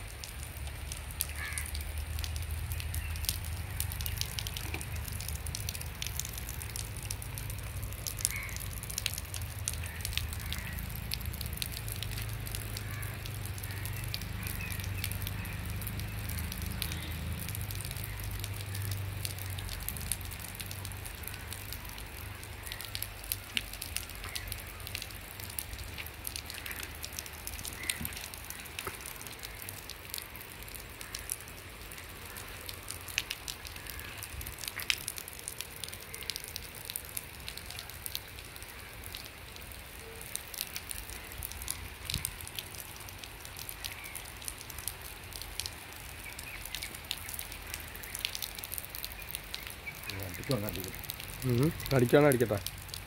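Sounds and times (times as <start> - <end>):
raindrops ticking close by: 0.0 - 53.0
steady rain hiss: 0.0 - 53.0.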